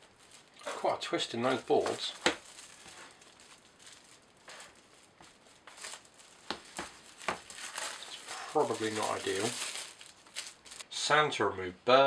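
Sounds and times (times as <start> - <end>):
plastic wrap crinkling: 0.0 - 10.9.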